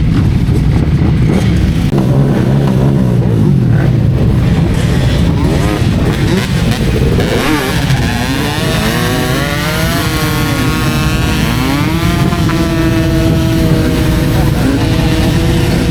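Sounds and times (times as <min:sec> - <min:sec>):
motorcycle engine revving: 0:00.0 - 0:15.9.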